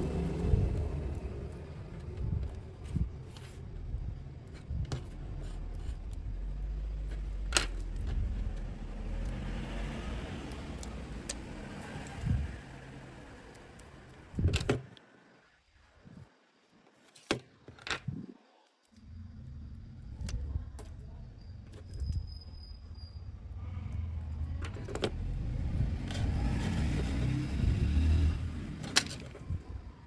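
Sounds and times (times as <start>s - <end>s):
low rumble: 0.0s - 14.6s, 19.0s - 30.0s.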